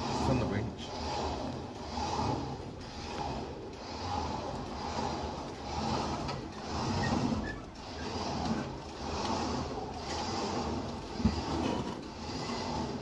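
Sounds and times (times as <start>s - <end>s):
winch running: 0.0s - 13.0s.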